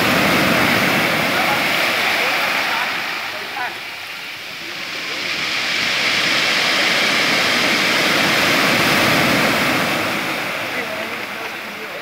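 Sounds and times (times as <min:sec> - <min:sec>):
wave breaking on gravel shore: 0:00.0 - 0:03.8, 0:04.5 - 0:12.0.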